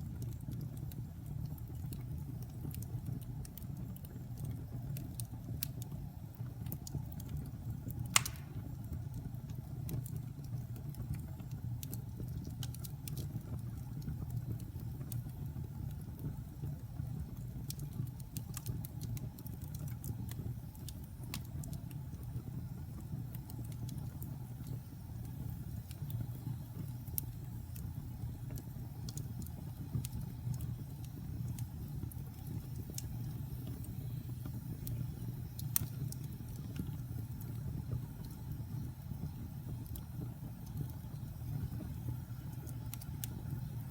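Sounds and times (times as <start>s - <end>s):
fire crackling and popping: 0.0s - 43.9s
low fire rumble: 0.0s - 43.9s.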